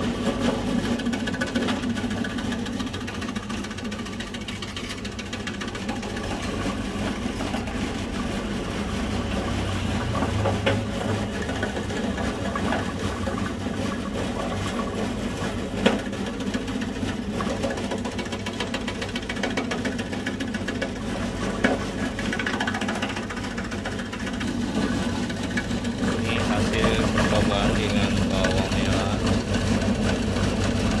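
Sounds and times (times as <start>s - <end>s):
slicing machine running: 0.0s - 31.0s.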